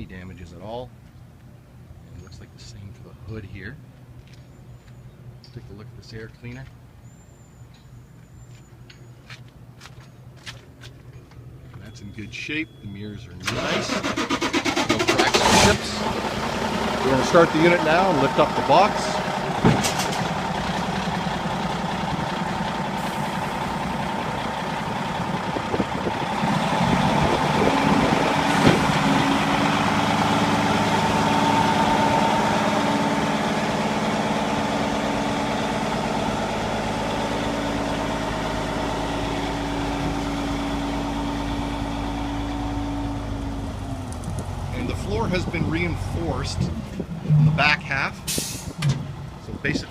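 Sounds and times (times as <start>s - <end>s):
diesel truck engine running: 9.1s - 49.9s.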